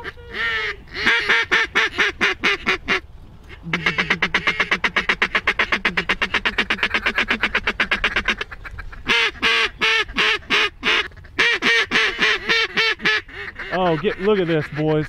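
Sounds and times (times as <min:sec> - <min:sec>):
duck call chatter: 0:00.0 - 0:15.0
duck call quacks: 0:00.0 - 0:15.0.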